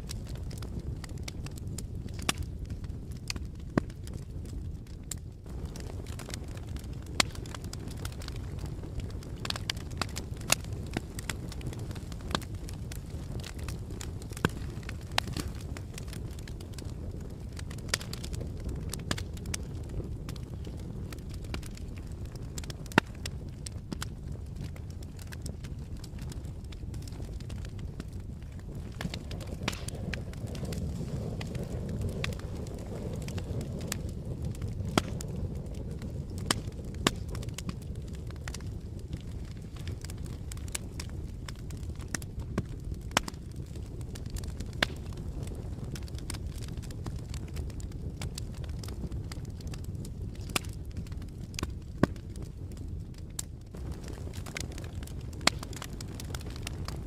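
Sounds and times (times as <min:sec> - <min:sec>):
burning wood crackling and popping: 0:00.0 - 0:57.0
campfire flames rumbling: 0:00.0 - 0:57.0.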